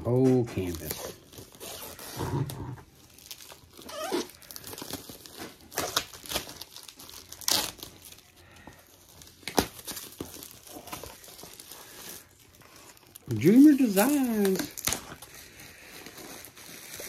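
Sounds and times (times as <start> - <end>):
plastic wrap crackles: 0.0 - 17.0
plastic wrap crinkling: 0.0 - 17.0.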